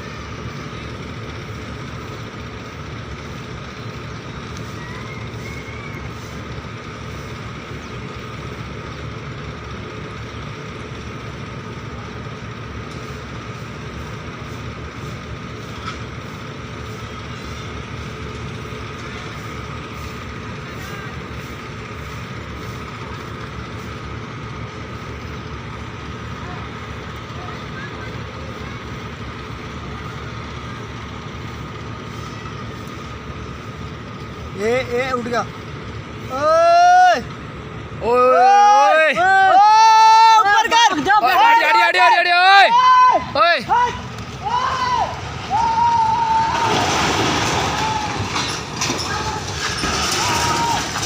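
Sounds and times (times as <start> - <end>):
crane diesel engine running: 0.0 - 51.0.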